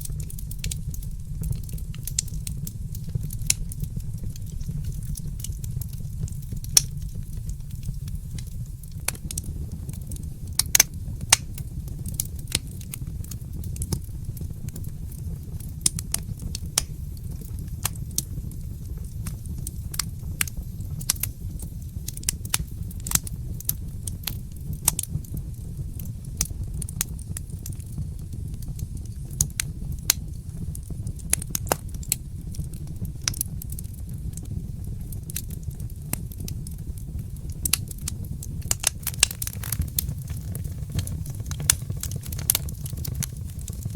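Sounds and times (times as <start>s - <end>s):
fireplace fire crackling: 0.0s - 43.9s.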